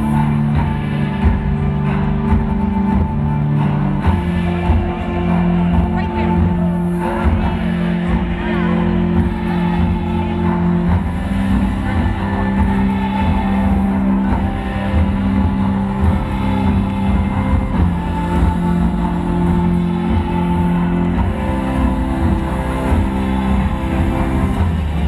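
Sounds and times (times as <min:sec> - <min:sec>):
electronic dance music: 0:00.0 - 0:25.0.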